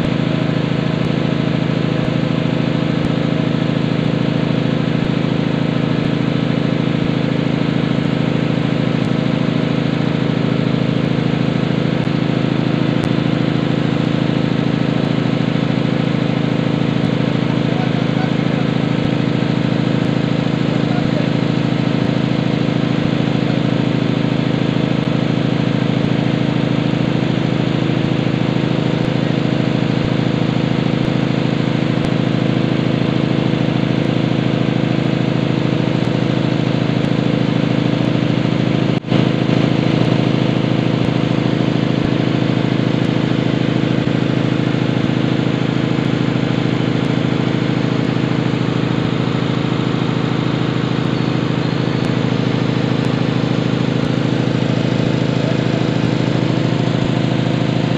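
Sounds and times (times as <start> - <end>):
air compressor droning: 0.0 - 57.9.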